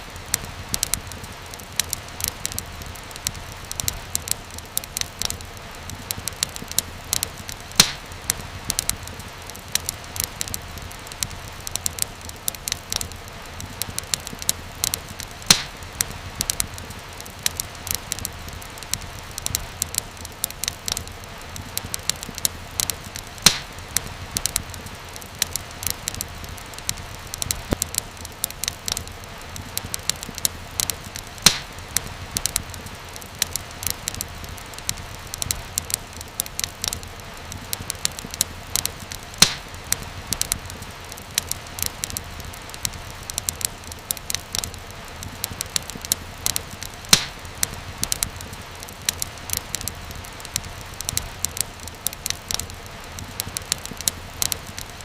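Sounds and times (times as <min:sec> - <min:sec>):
wood fire crackling: 0:00.0 - 0:55.0
loud fire pops: 0:00.1 - 0:55.0.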